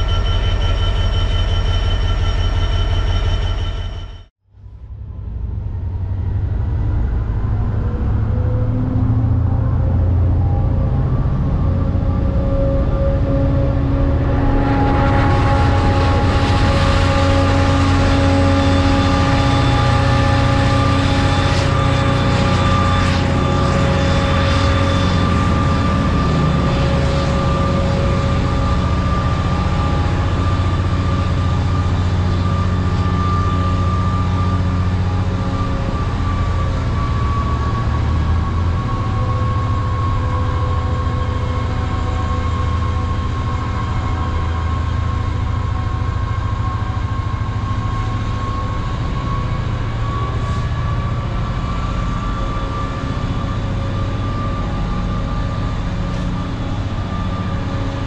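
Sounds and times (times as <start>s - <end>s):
diesel locomotive engine drone: 0.0s - 58.0s
high engine whine: 0.0s - 58.0s.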